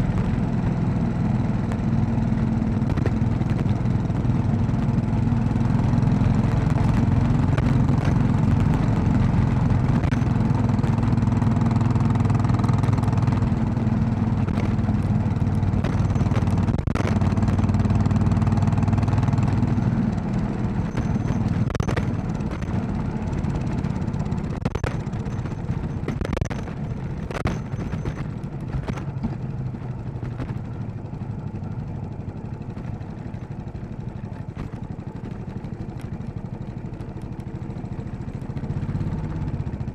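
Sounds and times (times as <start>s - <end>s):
motorcycle engine running: 0.0s - 39.9s
sharp knocks and rattles: 6.1s - 39.9s.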